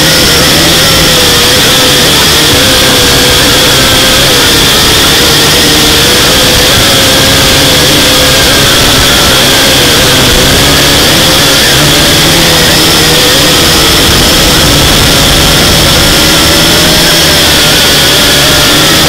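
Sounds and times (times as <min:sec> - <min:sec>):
drone motors whining: 0:00.0 - 0:19.0
propeller wash rushing: 0:00.0 - 0:19.0.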